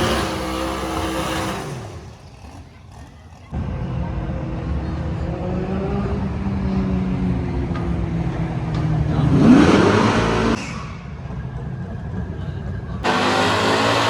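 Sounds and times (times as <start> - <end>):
car engine revving: 0.0 - 10.8, 13.0 - 14.0.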